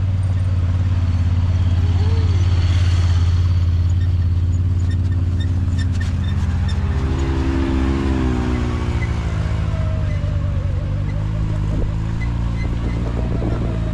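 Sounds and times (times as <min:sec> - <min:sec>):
vehicle engine low drone: 0:00.0 - 0:13.9.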